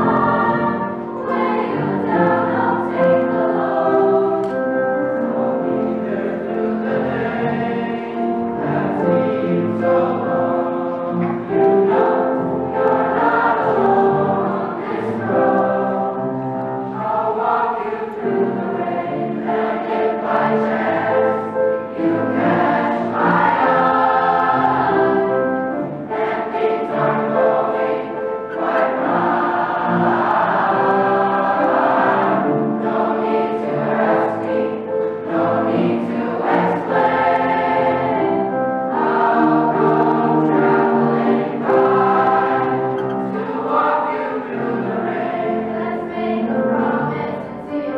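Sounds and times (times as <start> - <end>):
children's choir singing: 0.0 - 47.9
piano accompaniment: 0.0 - 47.9.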